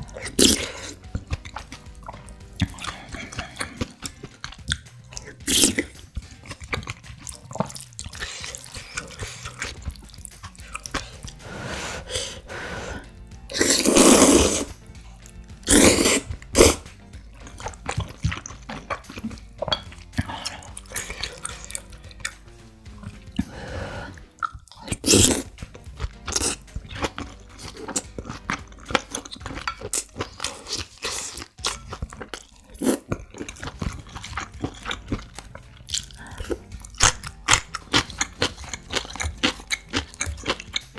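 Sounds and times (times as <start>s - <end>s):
slurping noodles: 0.0s - 4.4s, 5.2s - 19.4s, 23.1s - 25.6s, 26.3s - 40.9s
chewing: 0.0s - 11.4s, 12.0s - 40.9s.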